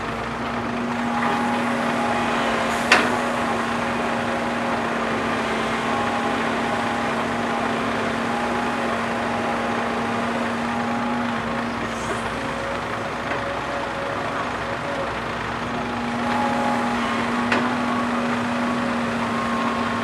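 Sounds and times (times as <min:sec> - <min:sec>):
heavy machinery engine drone: 0:00.0 - 0:20.0.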